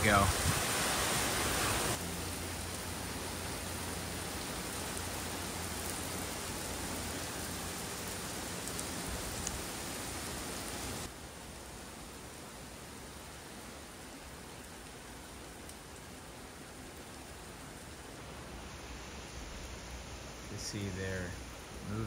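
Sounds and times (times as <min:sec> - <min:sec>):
wind-driven rain rushing: 0:00.0 - 0:22.0.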